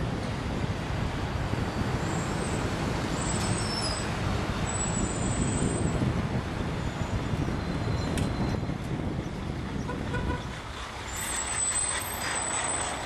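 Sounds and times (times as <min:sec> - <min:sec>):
city street traffic: 0:00.0 - 0:13.0
wind rumbling on microphone: 0:00.0 - 0:13.0.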